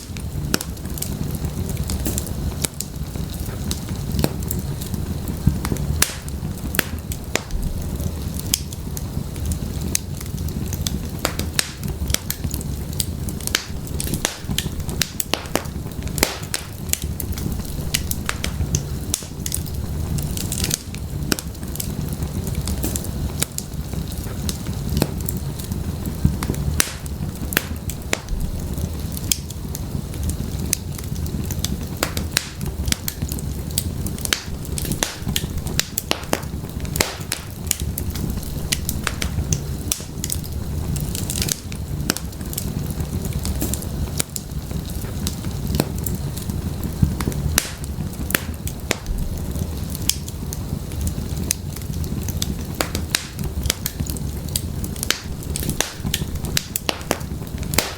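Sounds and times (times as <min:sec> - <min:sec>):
low rumble of flames: 0:00.0 - 0:57.9
sharp pops and snaps of fire: 0:00.0 - 0:57.9
wood fire crackling: 0:00.0 - 0:57.9.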